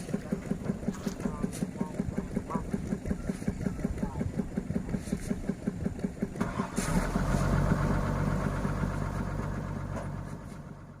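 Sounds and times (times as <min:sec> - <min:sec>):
excavator engine idling: 0:00.0 - 0:11.0.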